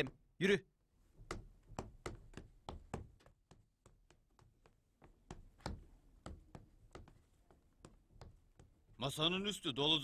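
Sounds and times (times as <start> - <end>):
footsteps on wooden floor: 1.1 - 9.2.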